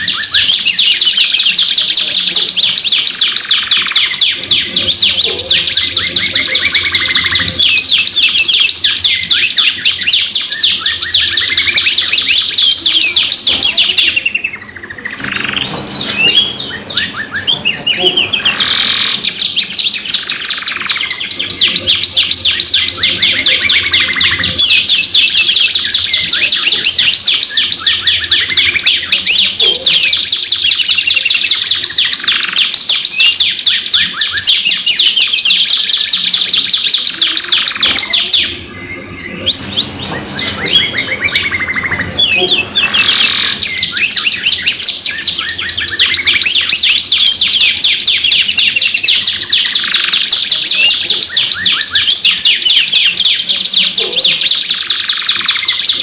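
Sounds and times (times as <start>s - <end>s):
canaries singing rapid trills: 0.0s - 56.0s.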